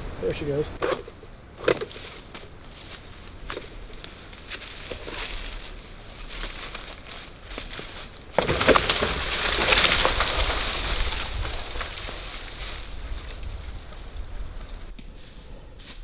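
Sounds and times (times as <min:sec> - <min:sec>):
dry leaves crackling: 0:01.9 - 0:16.0.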